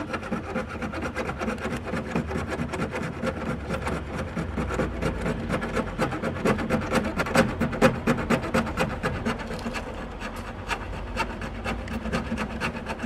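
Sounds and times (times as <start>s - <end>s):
handsaw cutting wood: 0.0s - 13.0s.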